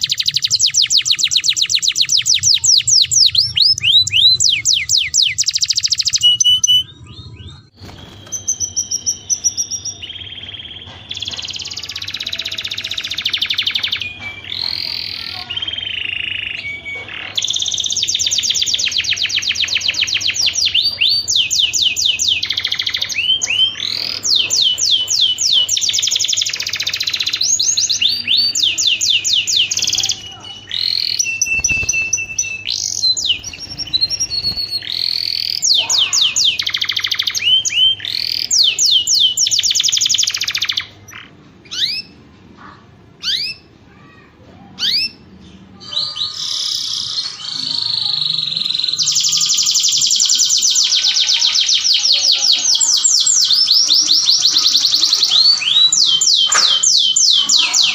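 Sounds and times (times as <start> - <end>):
canary singing: 0.0 - 57.9.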